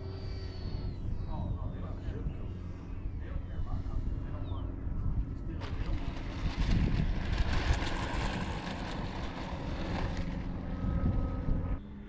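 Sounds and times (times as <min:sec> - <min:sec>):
ducted fan jet whoosh: 0:00.0 - 0:12.0.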